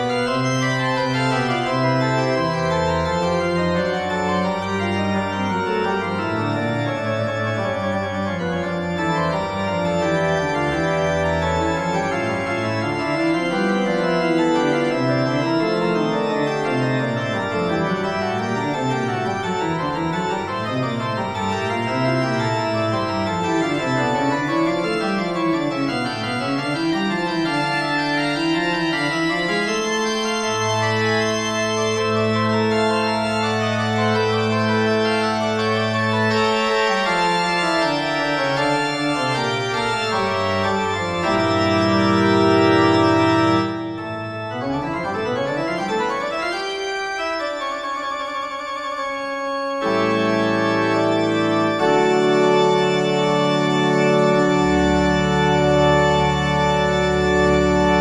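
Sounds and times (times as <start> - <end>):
slow organ music: 0.0 - 58.0.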